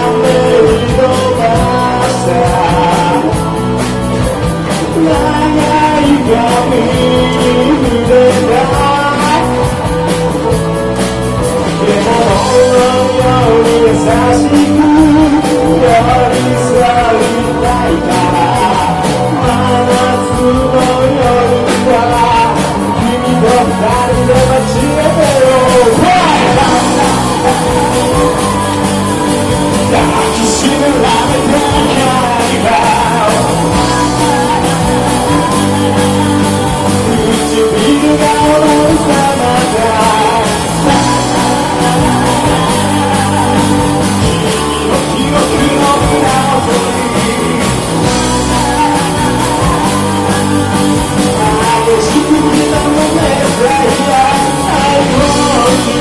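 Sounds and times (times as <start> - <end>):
person singing: 0.0 - 56.0
rock band playing live: 0.0 - 56.0.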